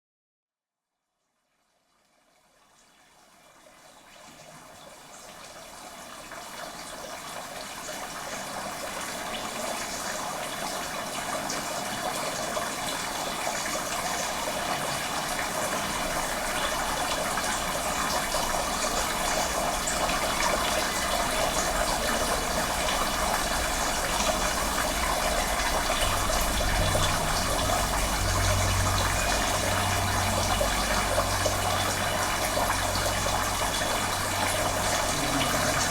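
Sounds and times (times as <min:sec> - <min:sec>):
running water rushing: 0:06.8 - 0:35.9.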